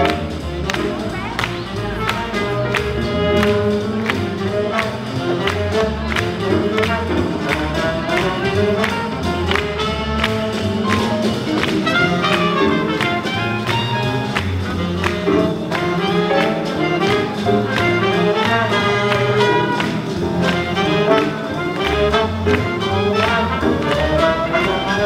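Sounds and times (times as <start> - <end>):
swing jazz band playing: 0.0 - 25.0.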